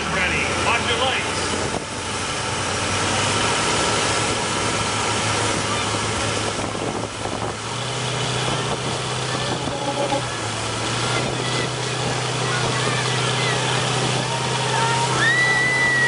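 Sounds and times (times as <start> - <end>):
outdoor crowd noise: 0.0 - 16.0
pickup truck engines running: 0.0 - 16.0.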